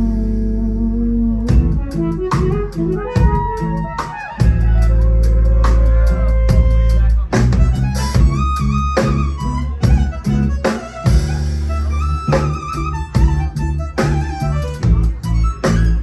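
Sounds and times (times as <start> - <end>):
live band instrumental: 0.0 - 16.0.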